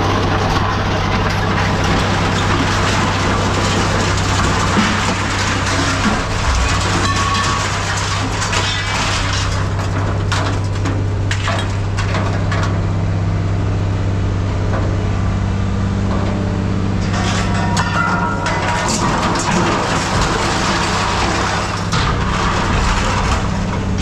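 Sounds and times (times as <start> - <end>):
hydraulic baler humming: 0.0 - 24.0
scrap metal crunching: 0.0 - 24.0.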